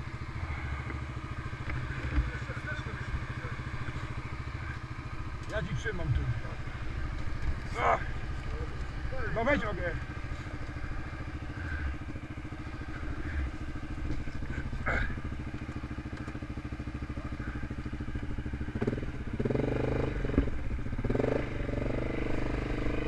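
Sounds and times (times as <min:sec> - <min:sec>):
atv engine idling: 0:00.0 - 0:23.0.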